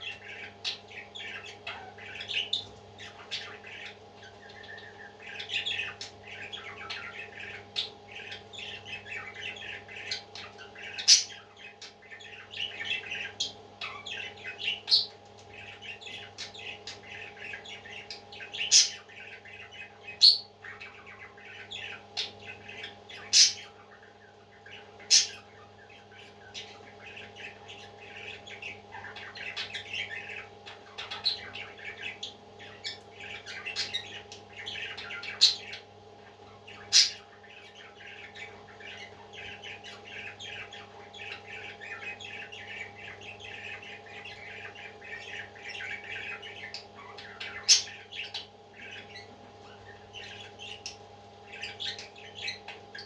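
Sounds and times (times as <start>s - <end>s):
parrot chicks chirping and squawking: 0.0s - 53.0s.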